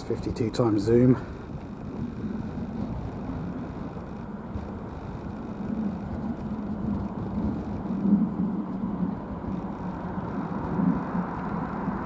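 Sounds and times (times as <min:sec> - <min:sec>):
distant jet engines rumbling: 0:00.0 - 0:12.0.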